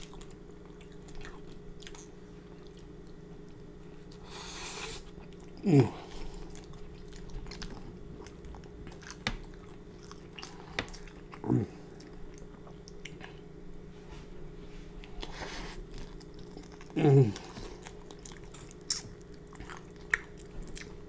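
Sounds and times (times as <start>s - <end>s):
man chewing with wet mouth clicks: 0.0s - 4.4s, 5.0s - 13.5s, 15.0s - 21.0s
low steady hum: 0.0s - 21.0s.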